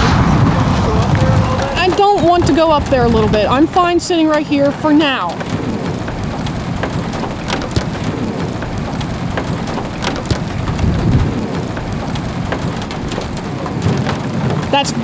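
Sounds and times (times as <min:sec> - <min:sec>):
low rumble: 0:00.0 - 0:13.9
sharp raindrop hits: 0:00.0 - 0:15.0
steady rain: 0:00.0 - 0:15.0.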